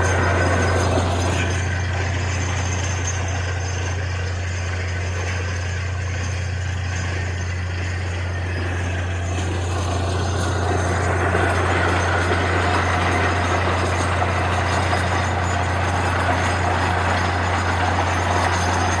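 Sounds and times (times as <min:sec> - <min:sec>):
drilling rig machinery running: 0:00.0 - 0:19.0.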